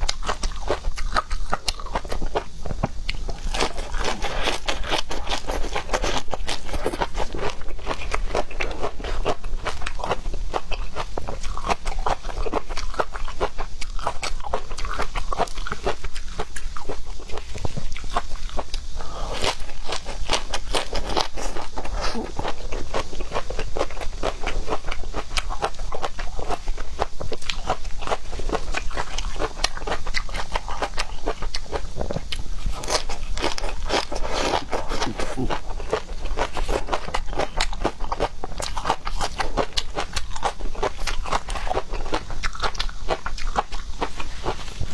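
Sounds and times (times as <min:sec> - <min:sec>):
crunchy chewing: 0:00.0 - 0:44.9.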